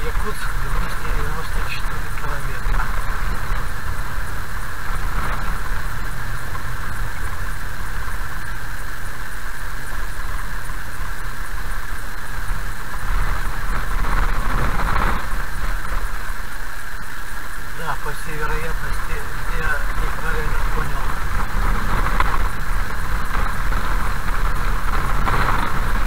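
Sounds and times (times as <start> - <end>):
engine and tyre rumble: 0.0 - 26.0
road hiss: 0.0 - 26.0.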